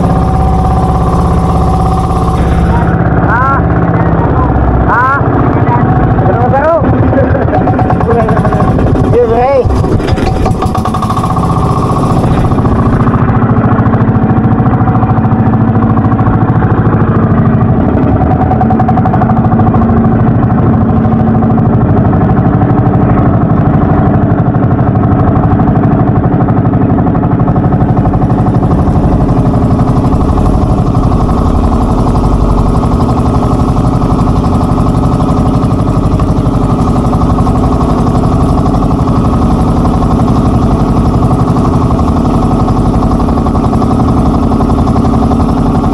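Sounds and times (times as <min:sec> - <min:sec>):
boat engines running: 0:00.0 - 0:45.9.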